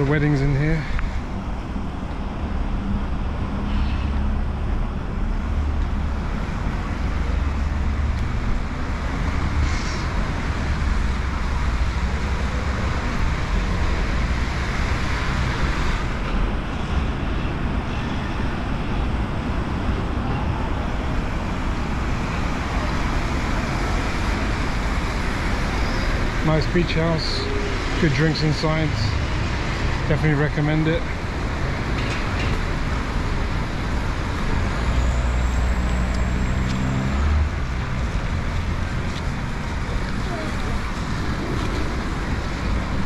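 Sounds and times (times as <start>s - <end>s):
road traffic on wet road: 0.0s - 43.0s.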